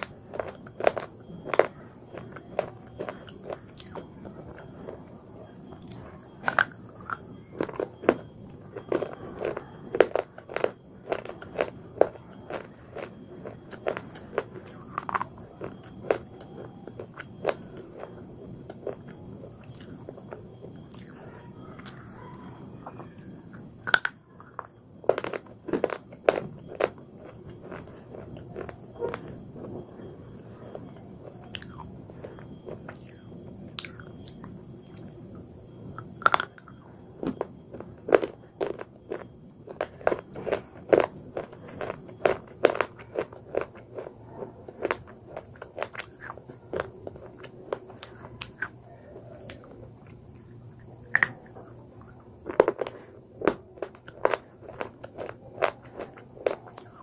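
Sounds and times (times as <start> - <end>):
teeth crunching clay: 0.0 - 57.0.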